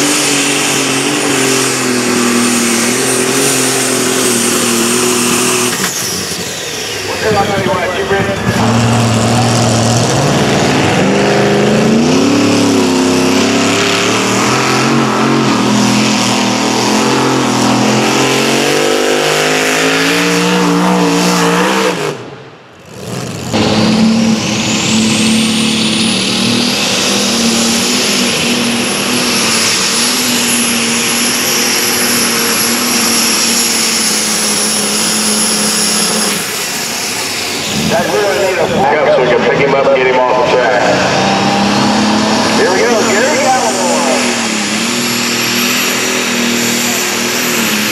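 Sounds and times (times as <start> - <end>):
engine with high whine: 0.0 - 47.9
high-revving engine under load: 0.0 - 47.9.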